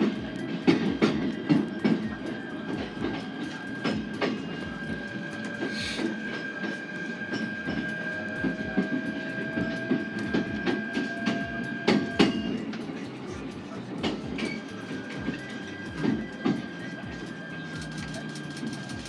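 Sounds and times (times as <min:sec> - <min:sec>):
steady train rumble: 0:00.0 - 0:19.0
train wheels clicking over rail joints: 0:00.0 - 0:19.0.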